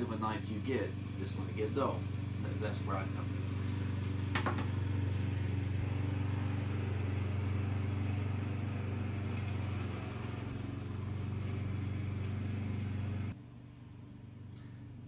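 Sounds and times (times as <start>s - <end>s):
lawn mower engine running: 0.0s - 13.4s.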